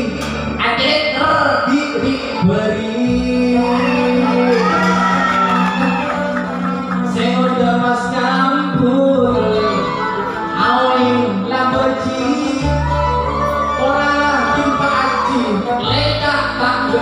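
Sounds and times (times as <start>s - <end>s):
held bass notes: 0.0s - 17.0s
man singing into a microphone: 0.0s - 17.0s.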